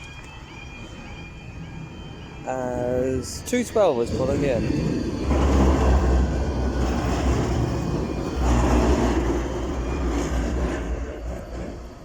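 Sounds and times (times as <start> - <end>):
tram motors and wheels rumbling: 0.0 - 12.0.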